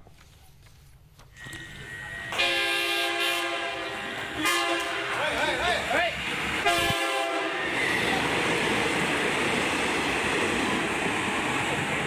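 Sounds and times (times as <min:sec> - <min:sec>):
train rushing past: 0:01.5 - 0:12.0.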